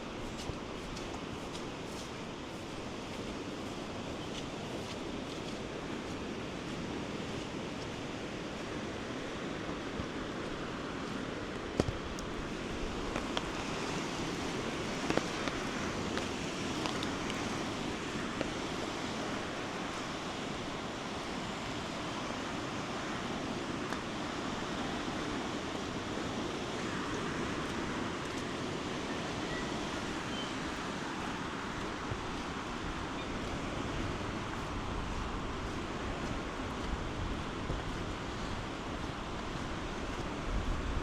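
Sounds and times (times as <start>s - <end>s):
river flowing fast: 0.0s - 41.0s.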